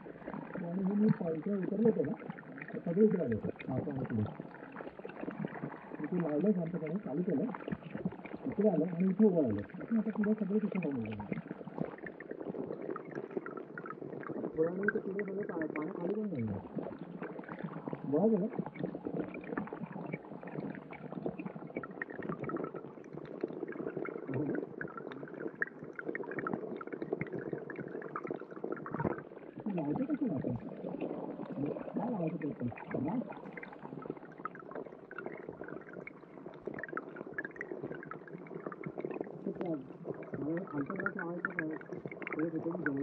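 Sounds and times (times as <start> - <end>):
muffled underwater bubbling: 0.0 - 43.0.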